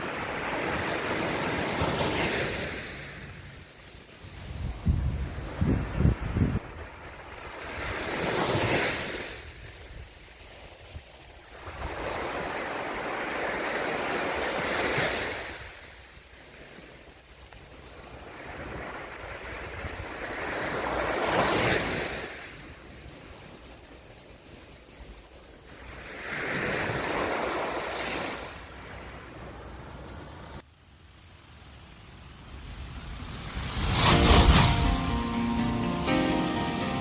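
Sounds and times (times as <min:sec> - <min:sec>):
sea waves breaking on shore: 0:00.0 - 0:37.0.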